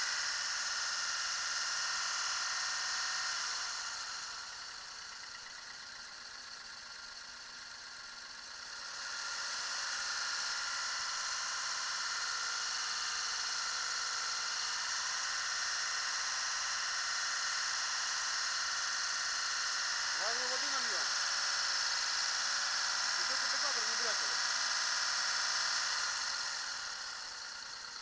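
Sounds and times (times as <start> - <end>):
car engine whirring and rattling: 0.0 - 28.0.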